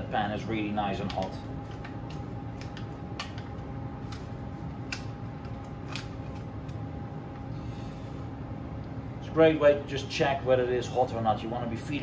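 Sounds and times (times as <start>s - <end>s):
kitchen extraction hum: 0.0s - 12.0s.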